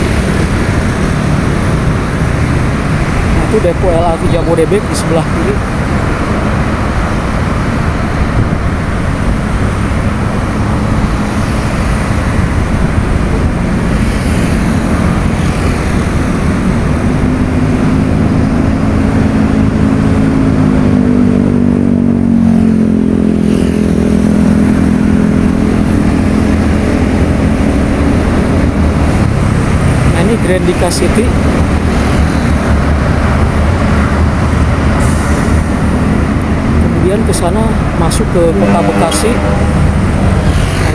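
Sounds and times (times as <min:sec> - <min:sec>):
road traffic noise: 0:00.0 - 0:40.9.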